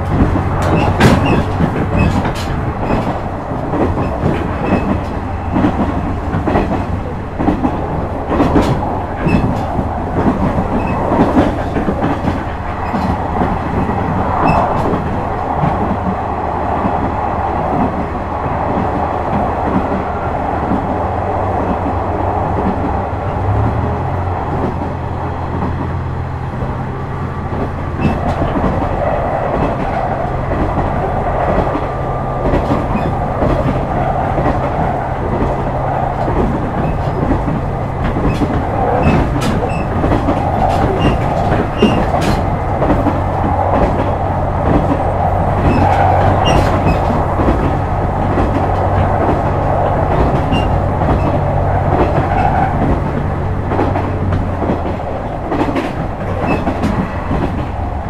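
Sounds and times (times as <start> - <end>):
wheels clicking over rail joints: 0.0 - 20.0, 27.4 - 58.0
railcar engine hum: 0.0 - 58.0.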